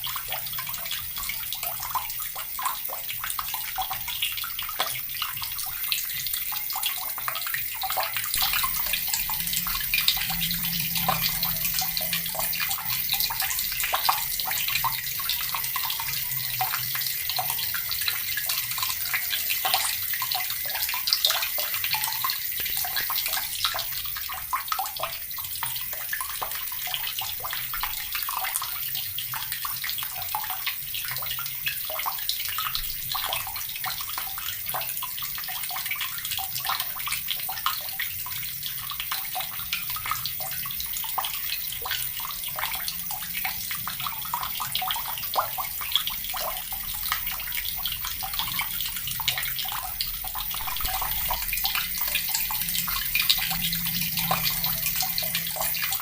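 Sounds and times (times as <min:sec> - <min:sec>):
water tap running: 0:00.0 - 0:56.0.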